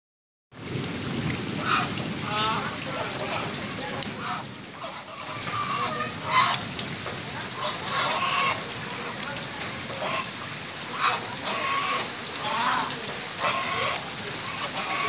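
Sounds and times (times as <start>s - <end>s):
rain falling on a puddle: 0.5s - 15.0s
geese calling: 1.6s - 6.7s, 7.5s - 15.0s.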